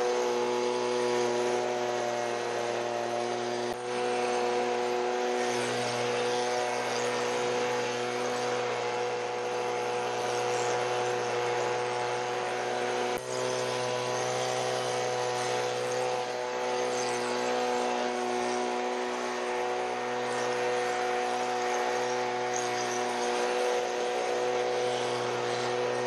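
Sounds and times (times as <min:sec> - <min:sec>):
small gasoline engine running: 0:00.0 - 0:26.0.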